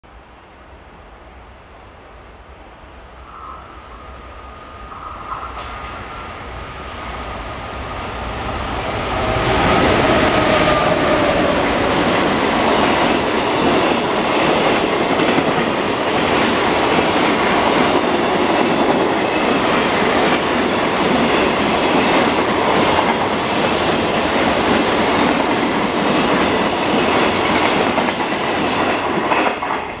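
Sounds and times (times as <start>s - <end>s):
electric locomotive whine: 0.2s - 30.0s.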